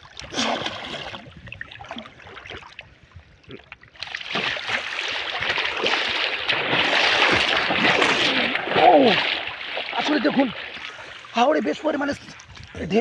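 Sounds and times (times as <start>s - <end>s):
water splashing around wading person: 0.0s - 13.0s.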